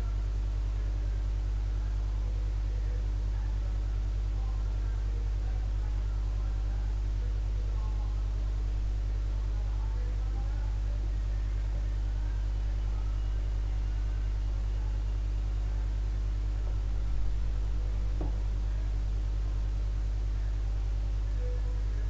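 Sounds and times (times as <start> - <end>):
faint music: 0.0 - 22.0
steady low hum: 0.0 - 22.0.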